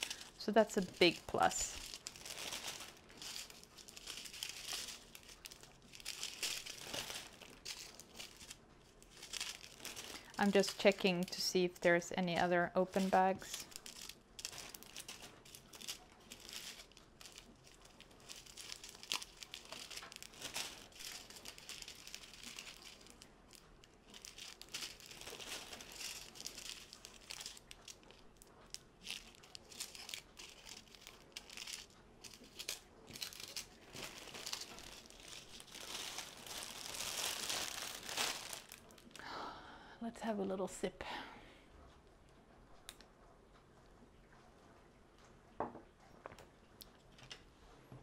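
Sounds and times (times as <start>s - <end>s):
plastic bags crinkling: 0.0s - 39.4s.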